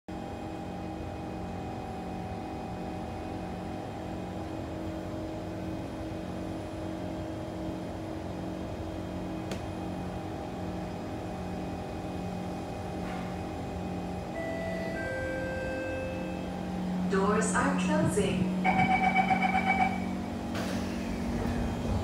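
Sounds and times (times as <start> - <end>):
train equipment hum and whir: 0.1 - 22.0.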